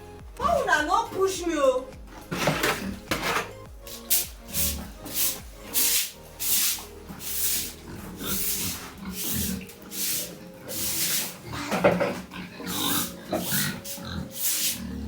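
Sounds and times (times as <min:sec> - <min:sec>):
background music with shaker beat: 0:00.0 - 0:15.0
pigs grunting and squealing: 0:02.1 - 0:15.0.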